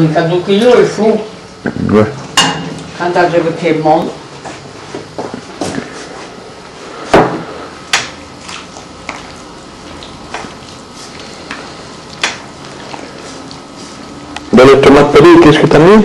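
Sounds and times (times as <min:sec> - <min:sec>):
hands mixing dough: 0:02.0 - 0:16.0.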